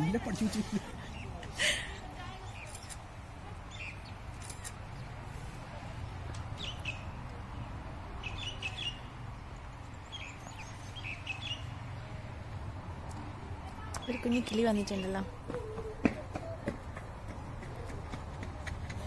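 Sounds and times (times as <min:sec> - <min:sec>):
small birds chirping: 0:00.1 - 0:12.5, 0:13.2 - 0:17.9.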